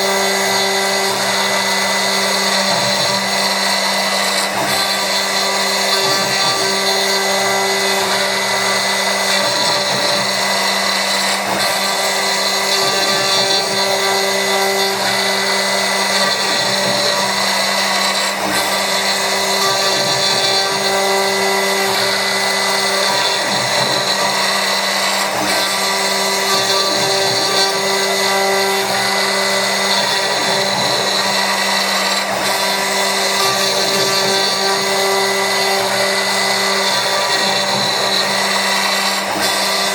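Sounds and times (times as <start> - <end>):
milling machine motor whine: 0.0 - 39.9.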